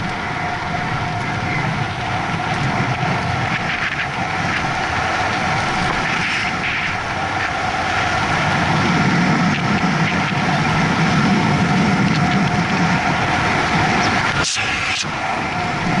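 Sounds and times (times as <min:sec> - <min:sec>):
bicycle tyre rumble on asphalt: 0:00.0 - 0:16.0
wind on microphone: 0:00.0 - 0:16.0.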